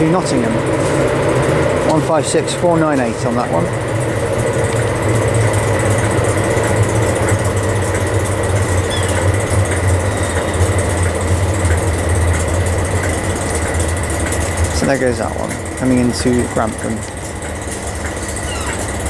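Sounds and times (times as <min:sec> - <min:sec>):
diesel train engine hum: 0:00.0 - 0:19.0.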